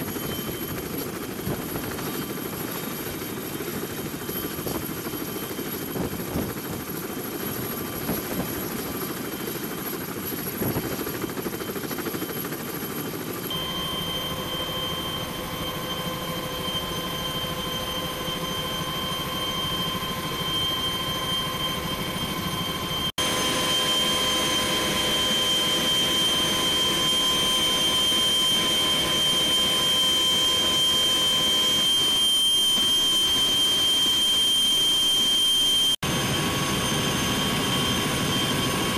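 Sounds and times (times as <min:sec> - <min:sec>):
helicopter engine whine: 0:00.0 - 0:38.9
helicopter rotors running: 0:00.0 - 0:38.9.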